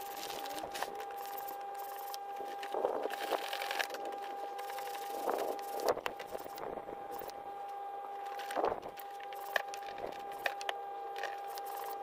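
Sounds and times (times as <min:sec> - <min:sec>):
steady high hum: 0:00.0 - 0:12.0.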